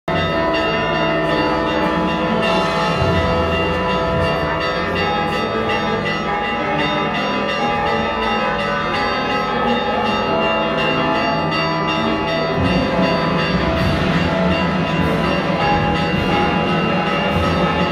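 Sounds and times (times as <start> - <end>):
church bells ringing: 0.1 - 17.9.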